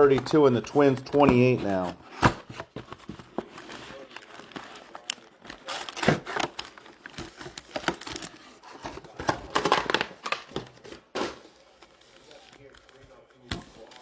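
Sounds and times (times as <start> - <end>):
wrappers crinkling and tearing: 1.8 - 14.0.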